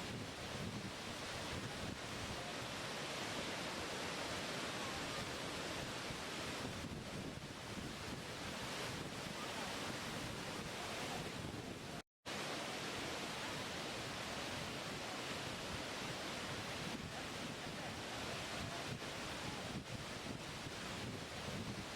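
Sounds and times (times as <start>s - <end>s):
waterfall rushing: 1.1s - 6.8s, 7.9s - 11.6s, 12.3s - 20.9s.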